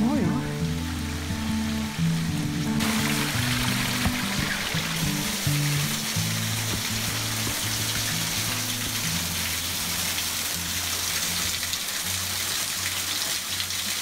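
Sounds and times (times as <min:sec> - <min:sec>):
music of held low notes: 0:00.0 - 0:14.0
stream rushing: 0:00.0 - 0:14.0.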